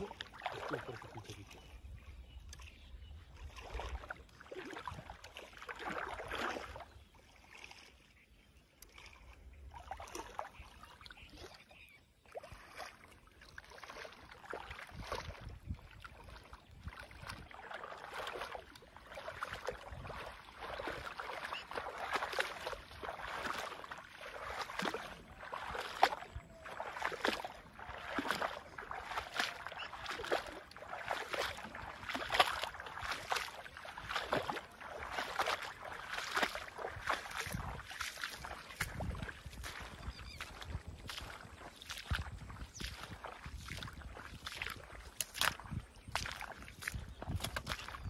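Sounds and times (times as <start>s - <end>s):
water splashing and sloshing: 0.0s - 48.0s.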